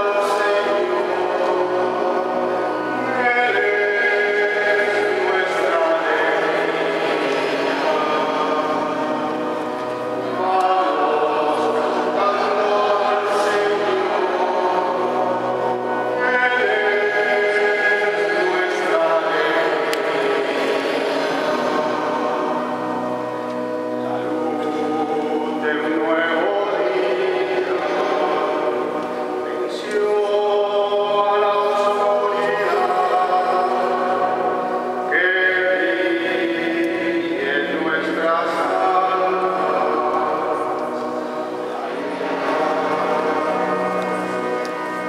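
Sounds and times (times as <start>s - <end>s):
choir and congregation singing hymn: 0.0s - 45.0s.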